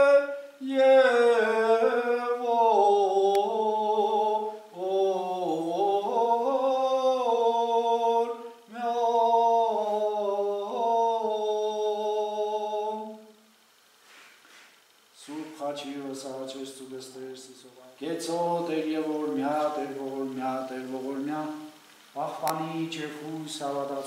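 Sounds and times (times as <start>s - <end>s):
man singing a slow chant: 0.0s - 13.4s, 15.2s - 24.0s.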